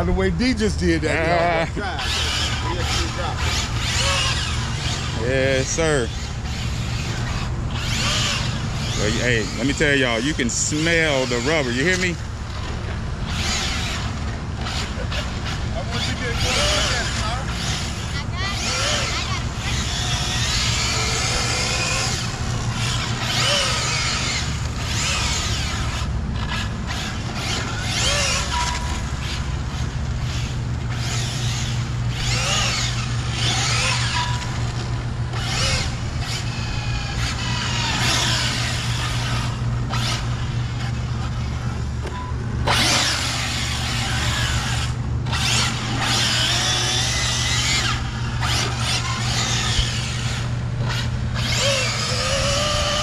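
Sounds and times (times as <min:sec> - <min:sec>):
electric motor whining in bursts: 0:00.0 - 0:53.0
steady low hum: 0:00.0 - 0:53.0.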